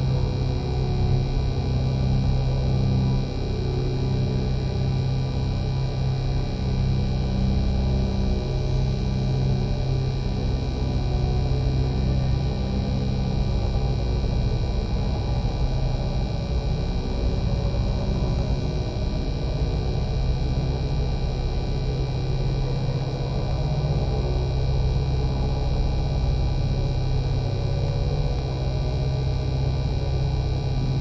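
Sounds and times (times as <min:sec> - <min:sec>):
sci-fi hovering drone: 0:00.0 - 0:31.0.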